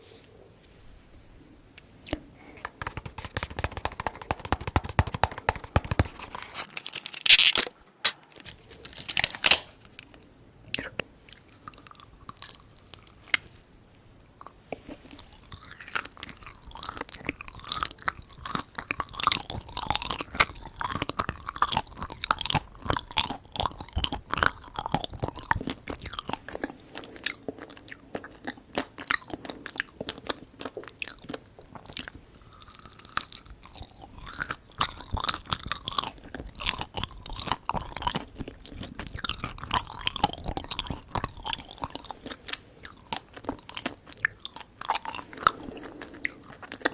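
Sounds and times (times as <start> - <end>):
close chewing and biting sweets: 1.8 - 46.9.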